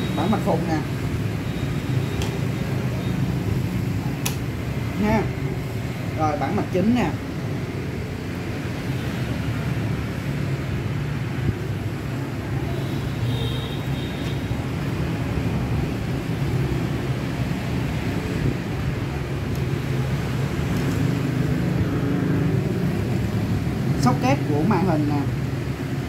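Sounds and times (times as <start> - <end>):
low rumble of engines: 0.0 - 26.0.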